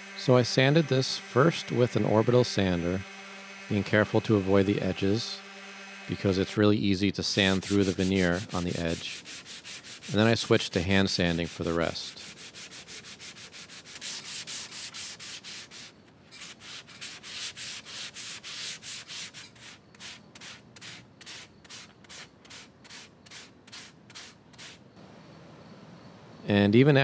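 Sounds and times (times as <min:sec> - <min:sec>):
sandpaper rasping on wood: 0:00.0 - 0:24.8.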